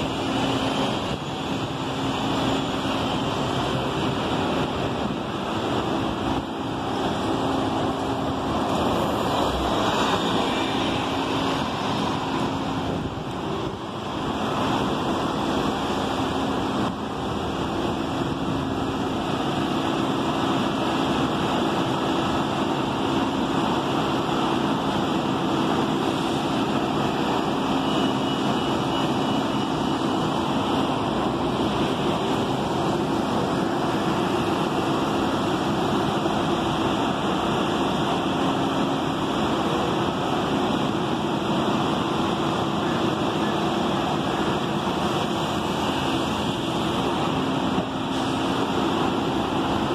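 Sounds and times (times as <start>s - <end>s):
minibus engine idling: 0.0s - 49.9s
street traffic noise: 0.0s - 49.9s.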